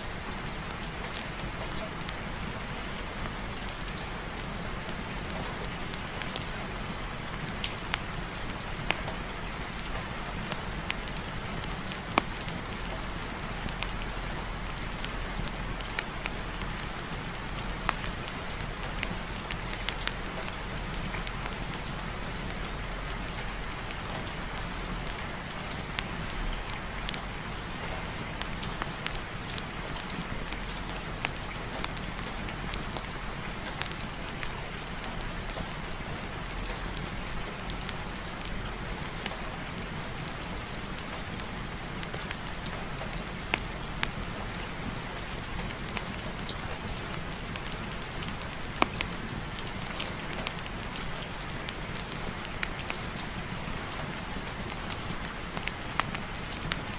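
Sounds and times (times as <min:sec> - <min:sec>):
sharp pops and drips: 0:03.0 - 0:56.9.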